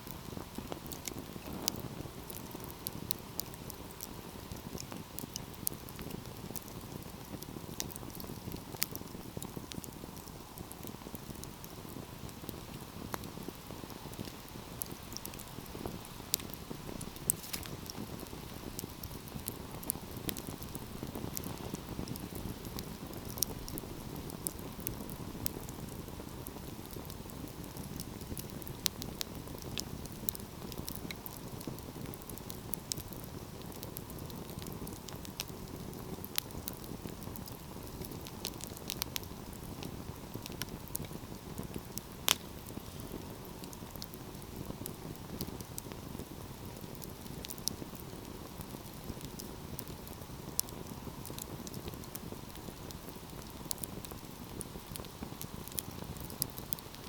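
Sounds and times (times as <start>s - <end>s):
fire crackling and popping: 0.0s - 57.0s
low rush of flames: 0.0s - 57.0s.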